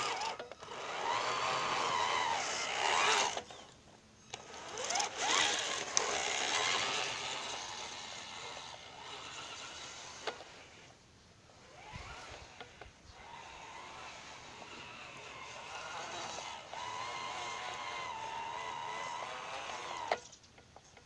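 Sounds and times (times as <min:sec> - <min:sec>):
toy truck motor whining: 0:00.0 - 0:11.0, 0:11.6 - 0:20.4.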